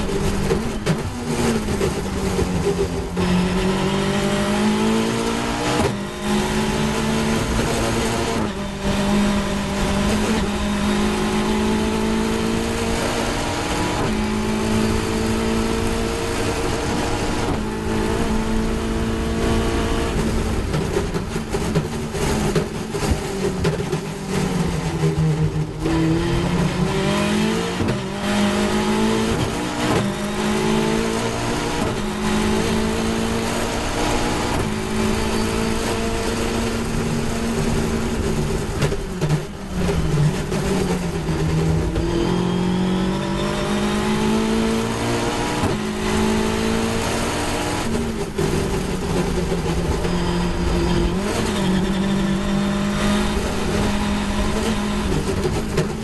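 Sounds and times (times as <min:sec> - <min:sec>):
race car engine with gear shifts: 0:00.0 - 0:56.0.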